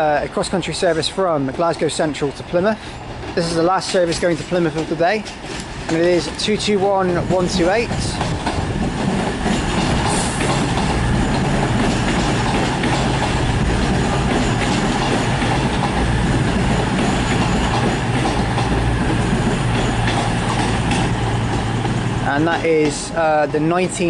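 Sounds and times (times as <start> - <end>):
train diesel engines humming: 0.0 - 24.0
train wheels clicking over rail joints: 0.0 - 24.0.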